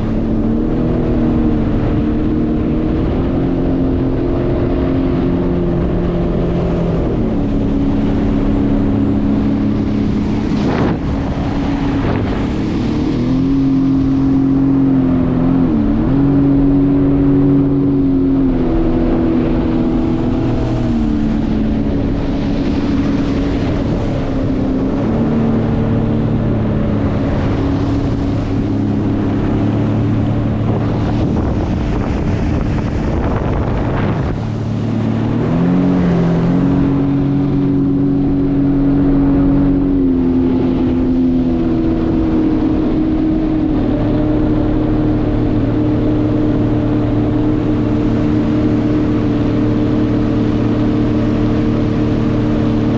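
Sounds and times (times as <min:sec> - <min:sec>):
jet ski engine running: 0:00.0 - 0:52.9
wind on microphone: 0:00.0 - 0:52.9.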